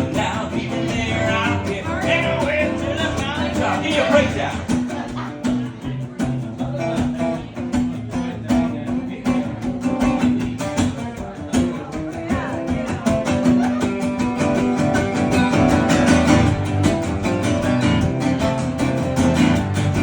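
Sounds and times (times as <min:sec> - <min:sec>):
acoustic guitars strumming: 0:00.0 - 0:20.0.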